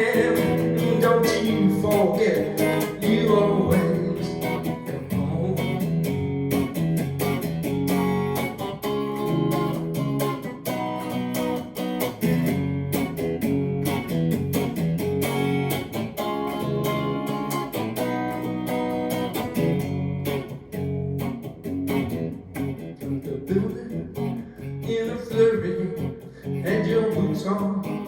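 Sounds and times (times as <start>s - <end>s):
guitar chords strummed: 0.0s - 28.0s.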